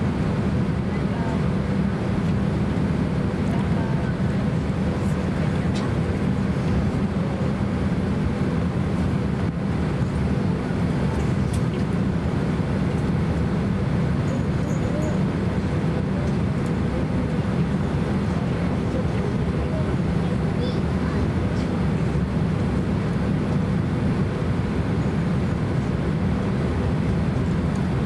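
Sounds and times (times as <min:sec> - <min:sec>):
airliner cabin rumble and hiss: 0:00.0 - 0:28.0.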